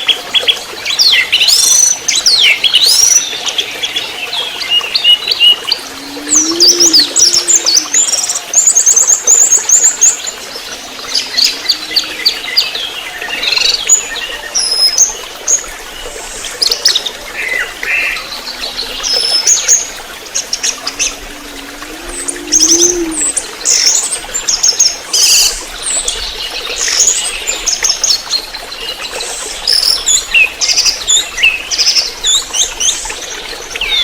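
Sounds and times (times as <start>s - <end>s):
bird song with chirps and trills: 0.0s - 34.0s.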